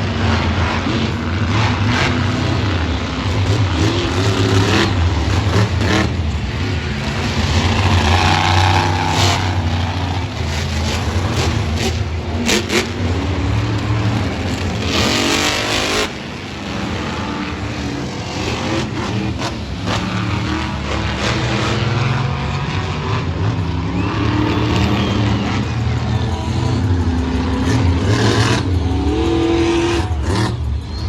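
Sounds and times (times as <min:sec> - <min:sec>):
monster truck engines running: 0:00.0 - 0:31.0.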